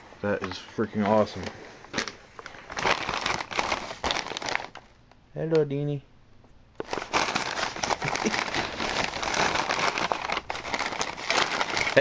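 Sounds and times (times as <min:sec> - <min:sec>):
paper and plastic bag crinkling: 0:00.4 - 0:04.9, 0:06.8 - 0:12.0.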